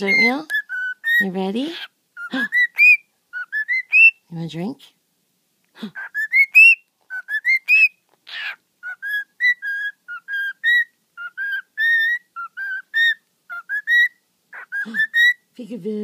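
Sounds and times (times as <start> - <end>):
cockatiel whistling: 0.0 - 4.2, 6.0 - 15.4.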